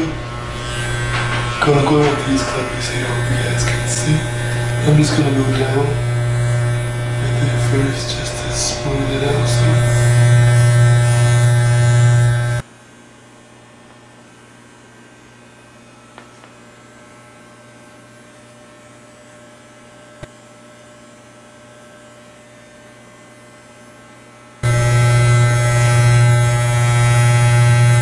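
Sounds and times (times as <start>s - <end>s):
electric hair clippers buzzing: 0.0s - 12.7s, 13.3s - 28.0s.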